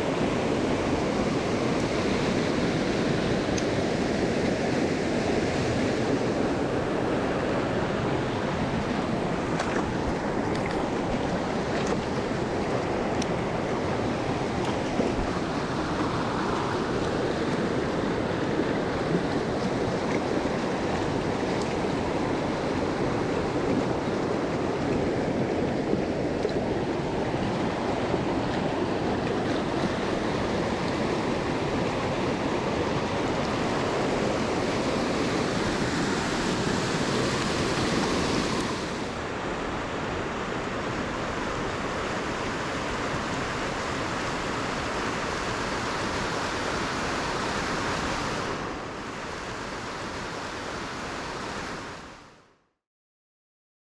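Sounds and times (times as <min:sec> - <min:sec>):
stream rushing over rocks: 0:00.0 - 0:52.1.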